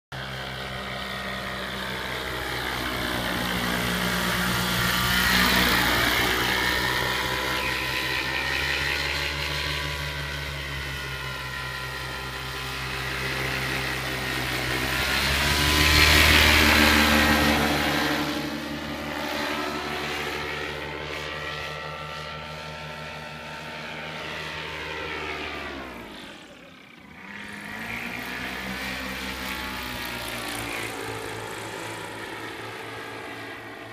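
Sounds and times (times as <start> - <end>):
paramotor engine and propeller droning: 0.1 - 33.9.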